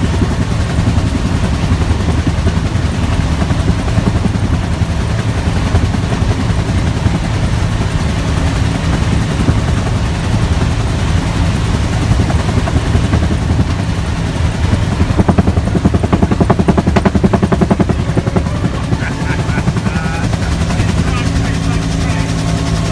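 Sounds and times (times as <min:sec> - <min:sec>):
helicopter engine rumble: 0:00.0 - 0:22.9
helicopter rotor beating: 0:00.0 - 0:22.9.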